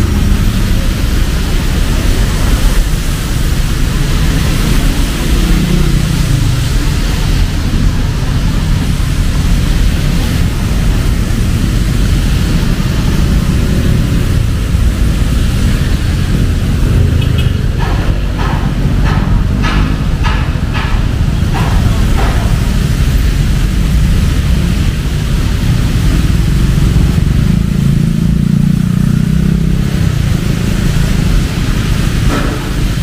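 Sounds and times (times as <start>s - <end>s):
heavy rain: 0.0s - 33.0s
road traffic: 0.0s - 33.0s.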